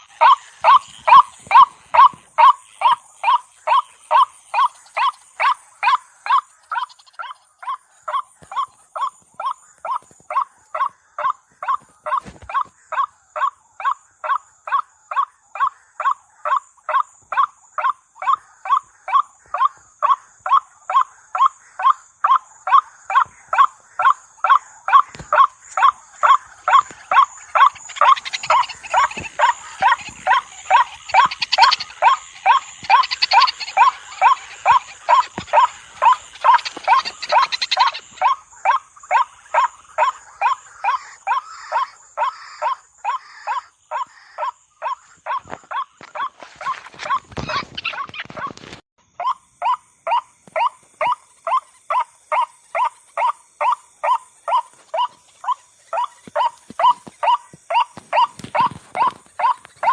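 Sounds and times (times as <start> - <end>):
high insect-like hiss: 0.0 - 59.9
waterhen croaking call: 0.0 - 59.9.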